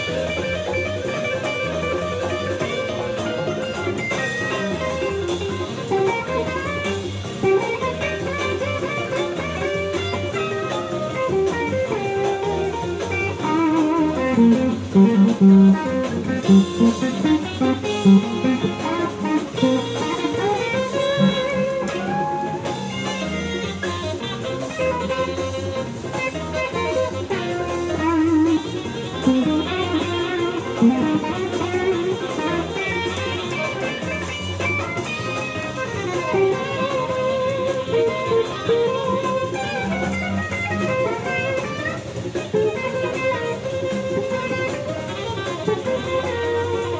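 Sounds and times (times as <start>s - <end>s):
electric guitar lead lines: 0.0s - 46.9s.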